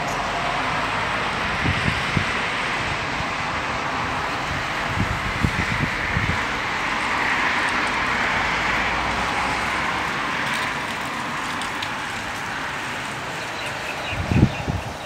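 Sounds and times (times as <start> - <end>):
strong wind through trees: 0.0 - 15.0.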